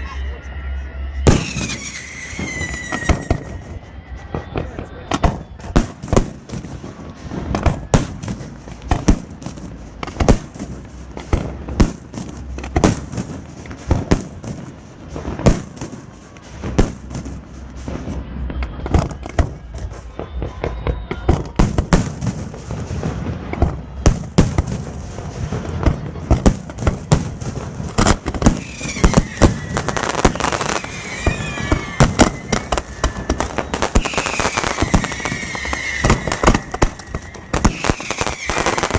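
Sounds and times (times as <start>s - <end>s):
whistling fireworks: 0.0s - 38.9s
fireworks bangs: 1.2s - 38.9s.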